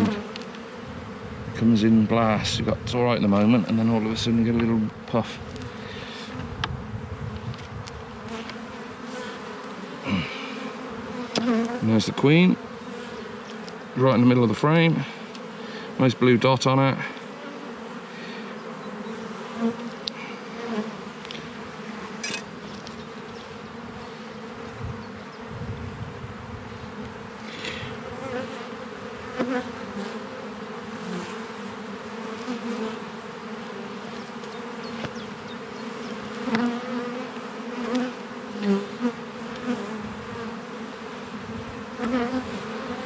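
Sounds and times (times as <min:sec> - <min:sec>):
honeybees buzzing: 0:00.0 - 0:43.0.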